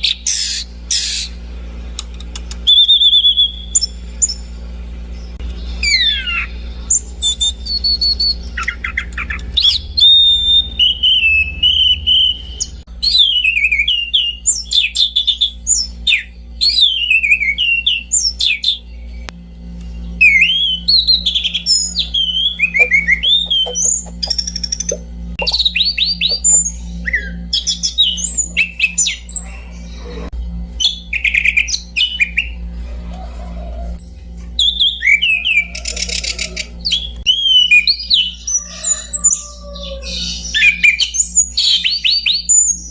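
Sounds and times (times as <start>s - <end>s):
thrush singing whistles and trills: 2.6s - 30.1s, 30.8s - 32.6s, 34.6s - 42.9s.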